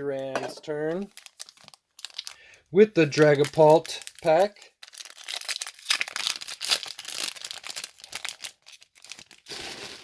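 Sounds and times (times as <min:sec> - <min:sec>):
foil wrapper crinkling and tearing: 0:01.0 - 0:10.0.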